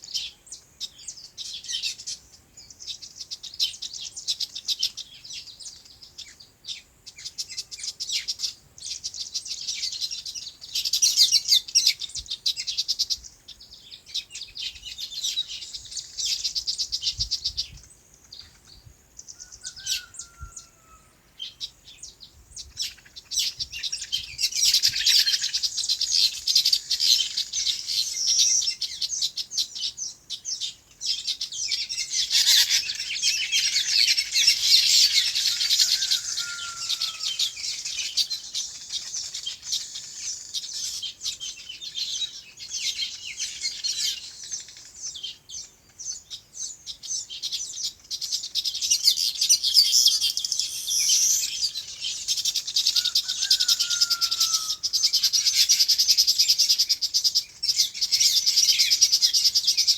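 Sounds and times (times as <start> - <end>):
small birds twittering: 0.0 - 59.9.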